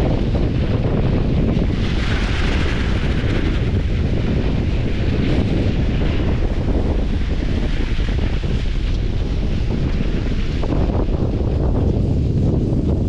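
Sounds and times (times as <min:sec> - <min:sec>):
skis scraping through snow: 0:00.0 - 0:13.0
wind rumble on microphone: 0:00.0 - 0:13.0.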